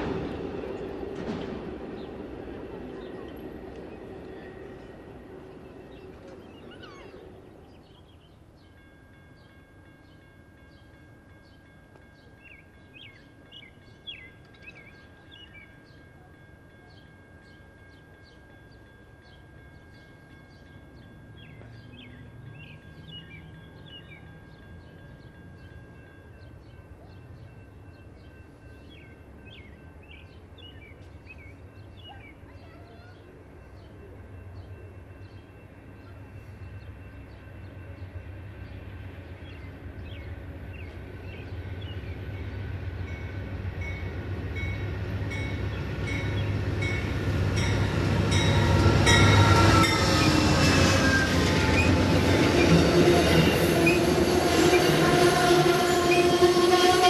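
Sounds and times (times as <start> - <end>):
distant train rumble: 0.0 - 57.0
songbirds chirping: 0.0 - 57.0.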